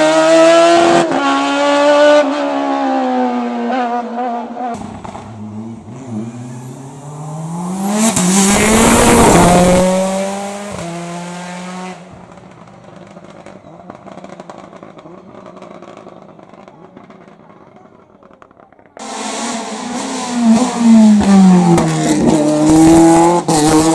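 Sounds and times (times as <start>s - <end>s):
race car accelerating past: 0.0s - 17.1s, 19.0s - 23.9s.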